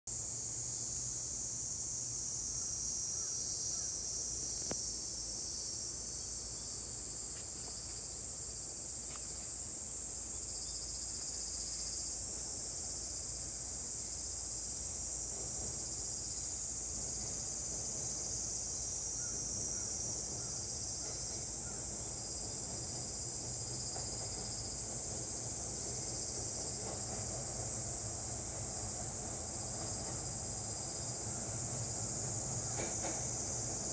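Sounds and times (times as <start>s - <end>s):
insect chorus drone: 0.1s - 33.9s
distant train on steel bridge: 0.2s - 33.9s.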